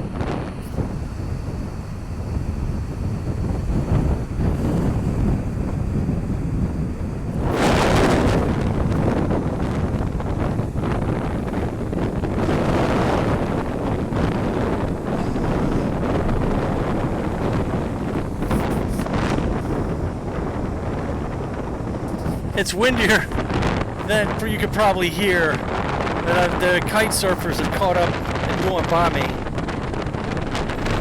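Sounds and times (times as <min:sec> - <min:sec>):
ocean surf washing: 0:00.0 - 0:31.0
wind buffeting microphone: 0:00.0 - 0:31.0.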